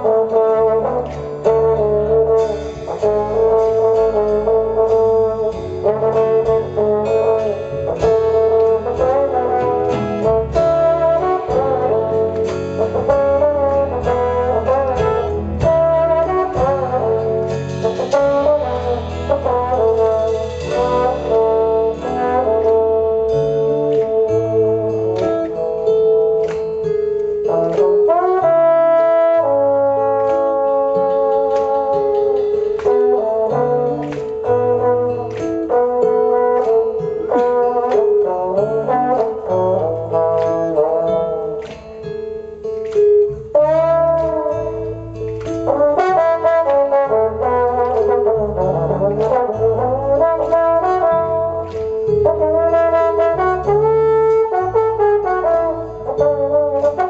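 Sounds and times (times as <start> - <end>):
bass line: 0.0 - 57.0
drums: 0.0 - 57.0
trombone playing melody: 0.0 - 57.0.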